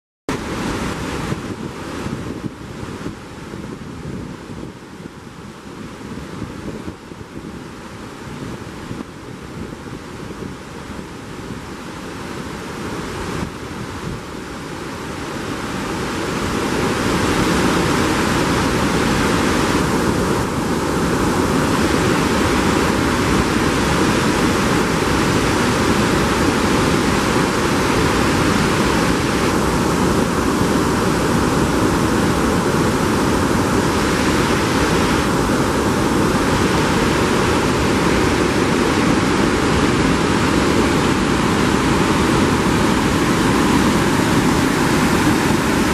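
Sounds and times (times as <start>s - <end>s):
water rushing over rocks: 0.3s - 45.9s.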